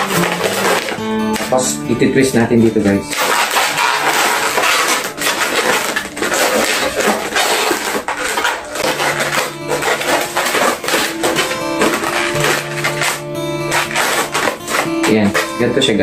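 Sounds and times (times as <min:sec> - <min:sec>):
balloons rubbing and squeaking: 0:00.0 - 0:01.7, 0:02.9 - 0:16.0
background music: 0:00.0 - 0:16.0.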